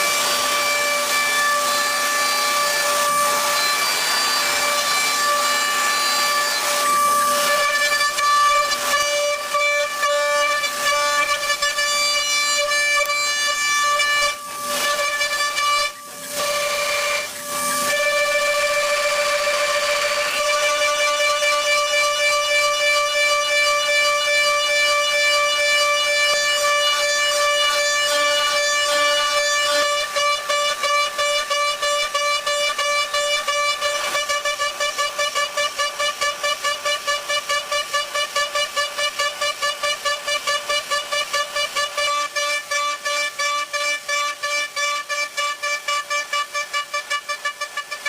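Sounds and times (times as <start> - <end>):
loud horn-like tone pulsing: 0.0 - 48.0.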